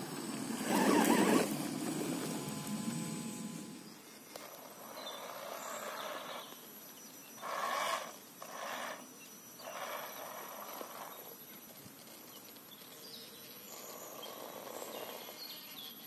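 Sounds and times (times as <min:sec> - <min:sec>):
electric motor and gears whirring: 0:00.0 - 0:15.5.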